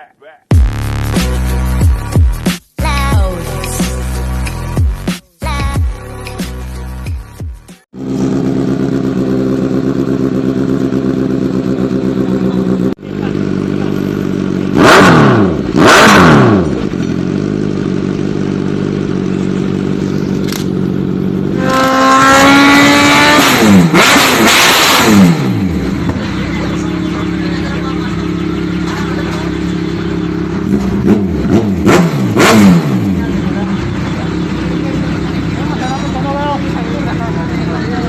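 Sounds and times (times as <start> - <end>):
motorcycle engine idling and revving: 0.5 - 38.0.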